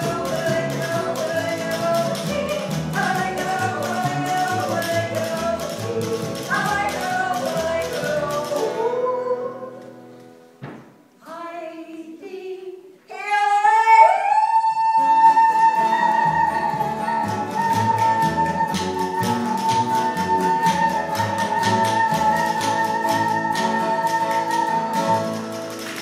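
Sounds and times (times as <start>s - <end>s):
woman singing: 0.0s - 10.0s, 11.2s - 26.0s
acoustic guitars and upright bass: 0.0s - 11.1s, 14.8s - 26.0s.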